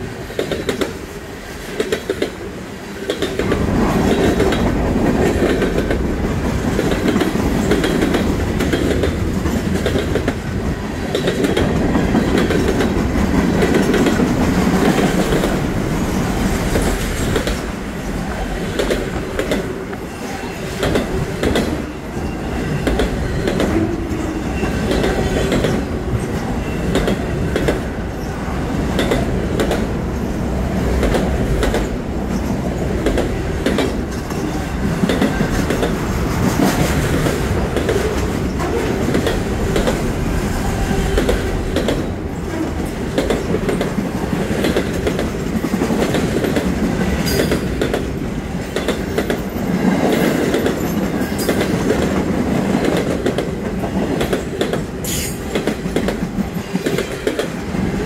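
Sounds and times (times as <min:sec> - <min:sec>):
train wheels rumbling on rail: 0:00.0 - 0:58.0
train wheels clacking: 0:03.0 - 0:30.0, 0:30.9 - 0:58.0.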